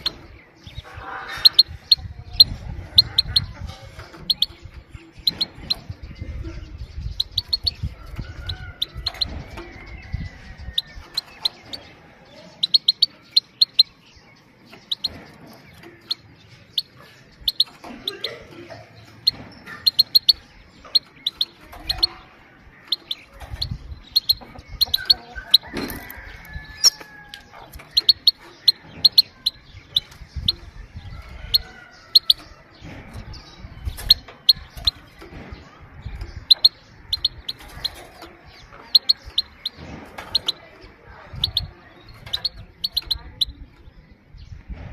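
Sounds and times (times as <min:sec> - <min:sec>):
goldfinch pit calls: 0:00.0 - 0:43.8.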